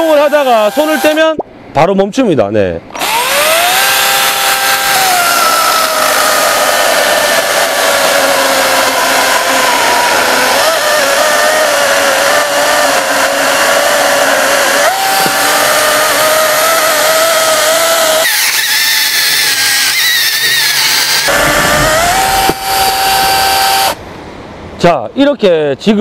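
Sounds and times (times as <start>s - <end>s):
electric chainsaw motor whine: 0.0s - 1.2s, 3.0s - 24.0s.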